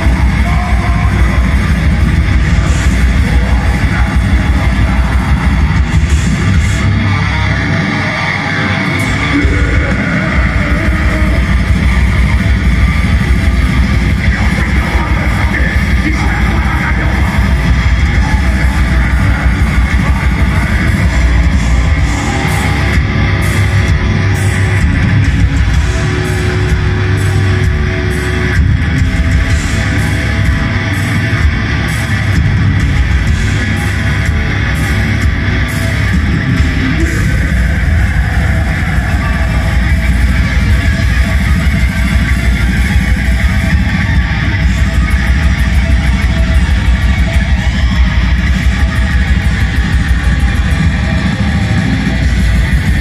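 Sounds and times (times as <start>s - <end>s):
metal band playing live: 0.0s - 53.0s.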